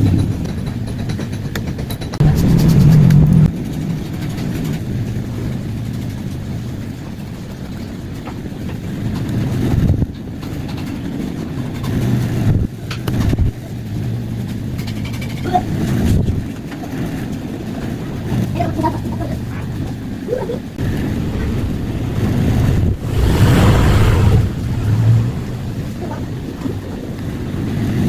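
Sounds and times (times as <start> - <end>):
low rumble of vehicle engines: 0.0 - 28.0.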